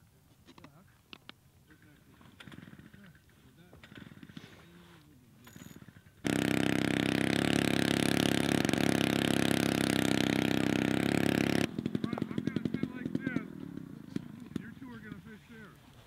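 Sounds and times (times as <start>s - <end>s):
small engine running: 2.2s - 4.8s, 5.4s - 15.8s.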